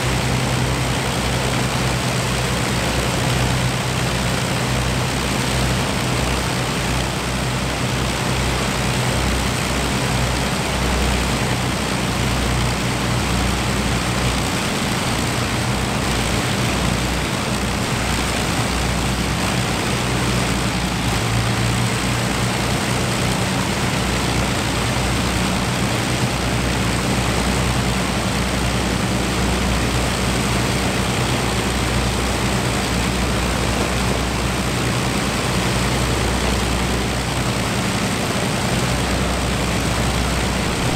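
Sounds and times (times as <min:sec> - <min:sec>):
propeller plane engines droning: 0:00.0 - 0:40.9.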